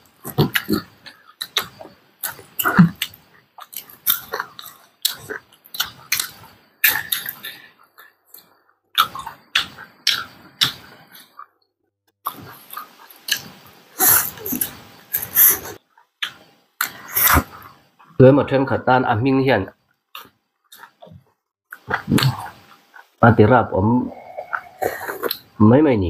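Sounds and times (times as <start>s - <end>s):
people chewing and crunching: 0.0s - 11.5s, 12.2s - 17.8s, 20.1s - 23.2s, 24.0s - 25.6s.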